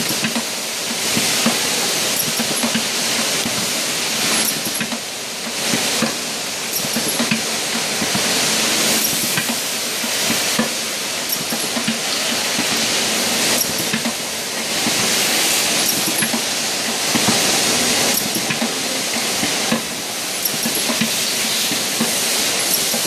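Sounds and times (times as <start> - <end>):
riveting machine hissing and rattling: 0.0 - 23.0.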